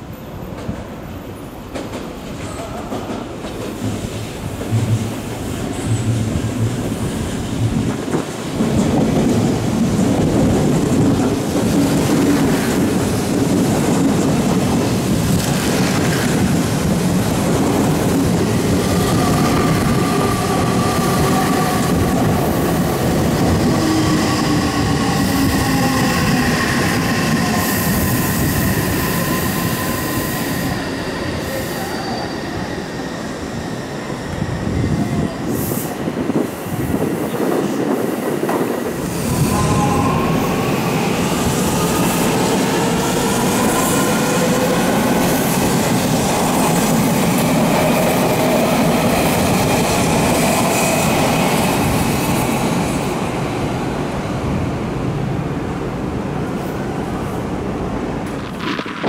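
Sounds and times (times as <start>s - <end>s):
train wheels rumbling on rails: 0.0s - 59.0s
train whine: 0.0s - 59.0s.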